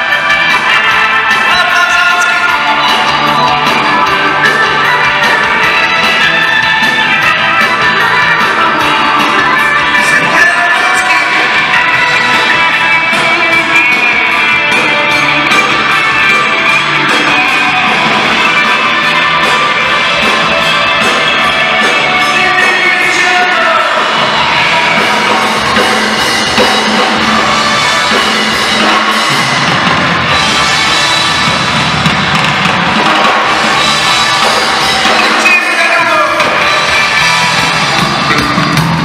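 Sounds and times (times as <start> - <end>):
bass and drums: 0.0 - 39.0
live rock band playing: 0.0 - 39.0.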